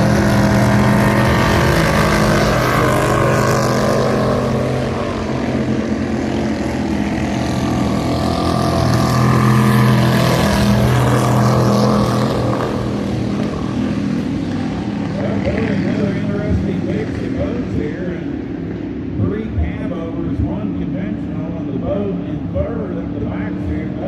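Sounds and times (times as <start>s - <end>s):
speedboat engine running hard: 0.0s - 24.0s.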